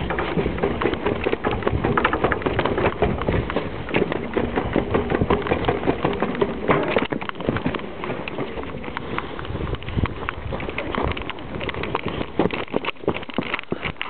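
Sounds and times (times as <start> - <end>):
footsteps running down stairs: 0.0 - 14.0.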